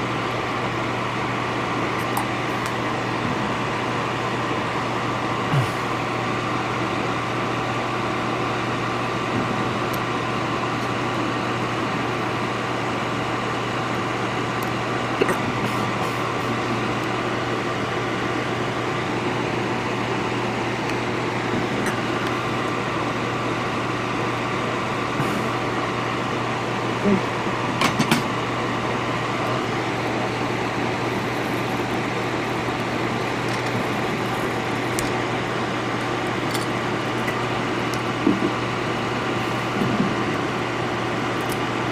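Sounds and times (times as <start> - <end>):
electric fan whirring: 0.0 - 41.9.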